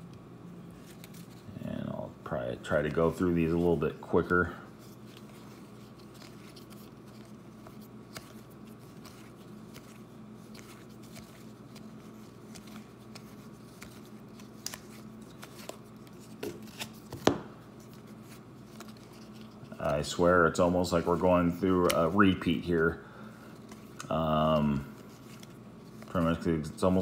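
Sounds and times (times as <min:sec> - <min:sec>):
faint steady hum: 0:00.0 - 0:27.0
cards being flipped through: 0:00.7 - 0:01.6, 0:02.7 - 0:22.6, 0:23.4 - 0:27.0.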